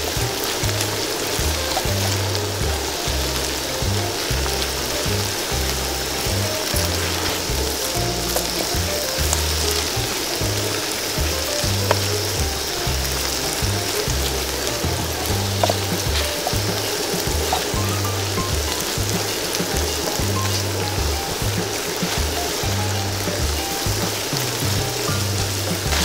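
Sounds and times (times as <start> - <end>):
music with rhythmic bass line: 0.0 - 26.0
oil sizzling and bubbling: 0.0 - 26.0.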